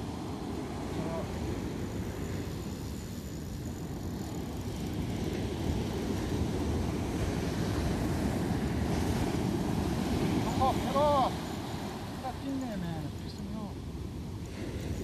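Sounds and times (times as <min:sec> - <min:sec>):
surf breaking on beach: 0:00.0 - 0:03.1, 0:04.6 - 0:15.0
wind buffeting microphone: 0:00.0 - 0:15.0.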